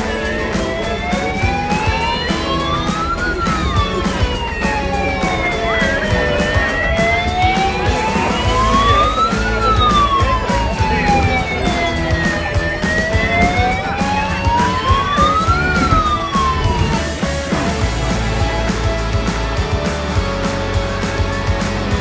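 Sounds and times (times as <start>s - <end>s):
emergency siren wailing: 0.0s - 18.8s.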